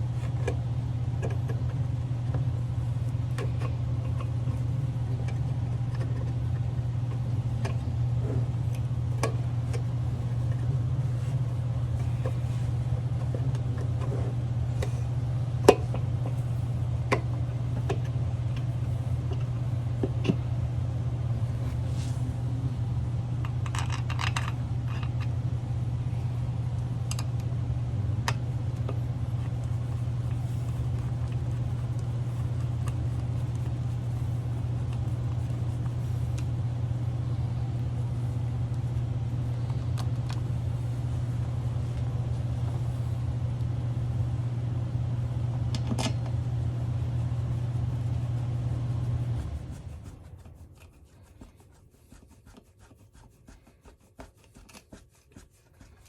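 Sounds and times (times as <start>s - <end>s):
low motor hum: 0.0s - 51.4s.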